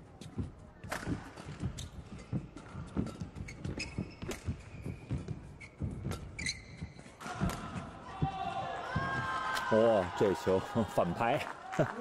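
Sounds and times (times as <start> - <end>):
shoes thudding and squeaking: 0.0 - 9.7.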